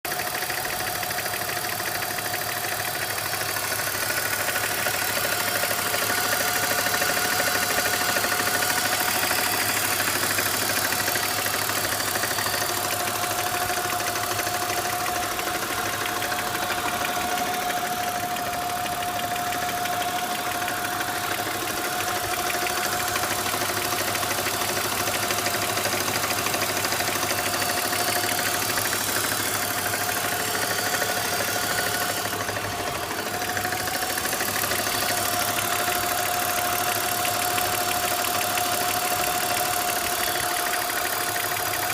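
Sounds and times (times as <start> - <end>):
car engine idling: 0.1 - 41.9
engine clicking: 0.1 - 41.9.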